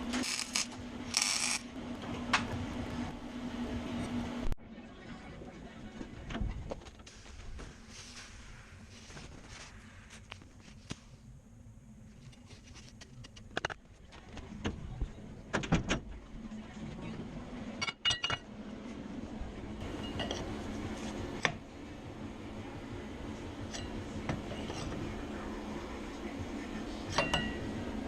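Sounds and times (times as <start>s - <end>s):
steady low hum: 0.0s - 15.5s, 16.1s - 28.0s.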